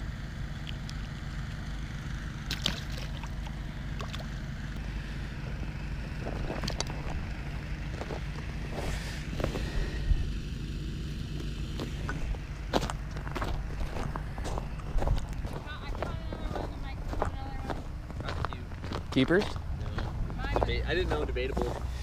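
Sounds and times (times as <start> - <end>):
low rumble: 2.4 - 22.0.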